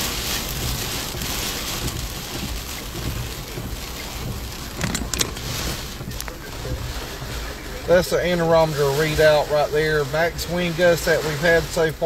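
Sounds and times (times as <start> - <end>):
rain beating on truck: 0.0 - 12.0.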